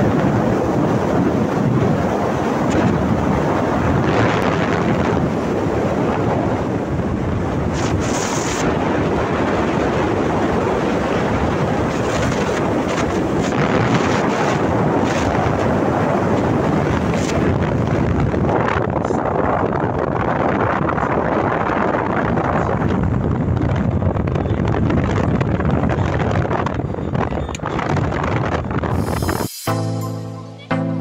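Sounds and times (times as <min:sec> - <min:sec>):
wind rushing on microphone: 0:00.0 - 0:29.7.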